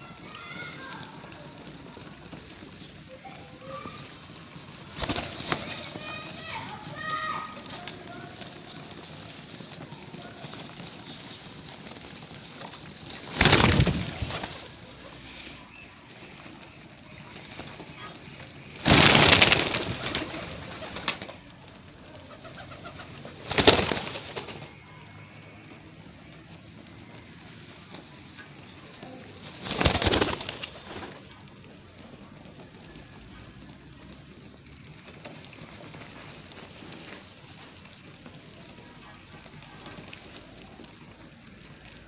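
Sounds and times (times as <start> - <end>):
pigeon wings clattering: 0.0 - 15.4, 16.1 - 24.9, 25.5 - 42.0.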